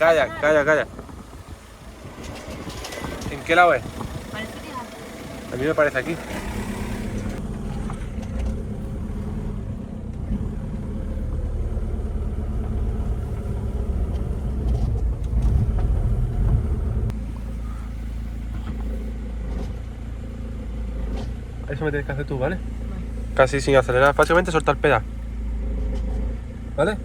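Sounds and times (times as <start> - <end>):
car engine rumbling: 0.0 - 27.0.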